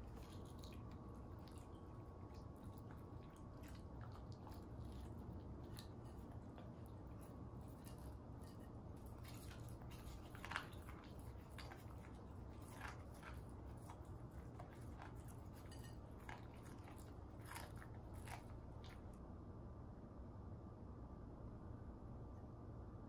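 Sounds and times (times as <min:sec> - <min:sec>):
puppy licking a plate: 0:00.0 - 0:19.2.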